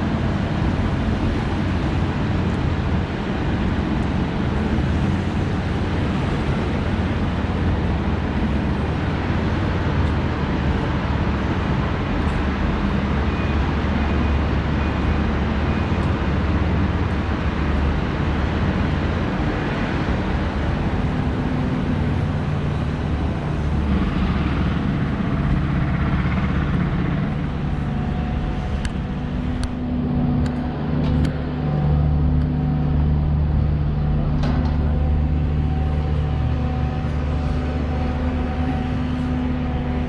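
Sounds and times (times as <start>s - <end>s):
heavy machinery engine rumble: 0.0s - 40.0s
street traffic: 0.0s - 40.0s.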